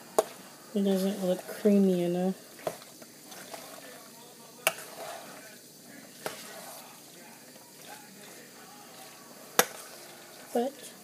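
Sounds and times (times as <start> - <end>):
wet mixing in a bowl: 0.0 - 11.0.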